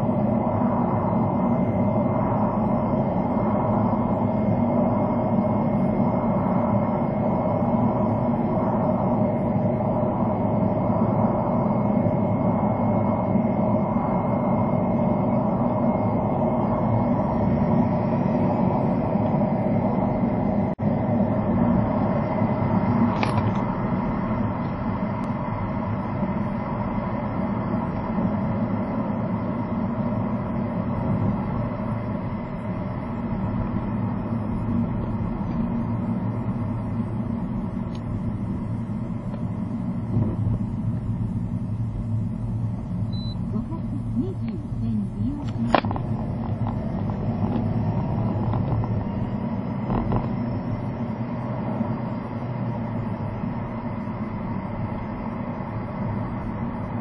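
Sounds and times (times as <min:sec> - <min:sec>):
car engine hum: 0:00.0 - 0:57.0
road and tyre noise: 0:00.0 - 0:57.0.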